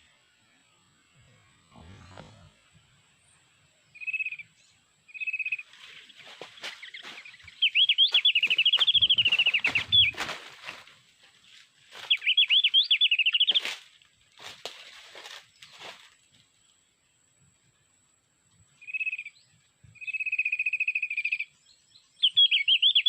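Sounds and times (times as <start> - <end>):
bird song trills and chirps: 0.0 - 13.8, 15.0 - 23.0.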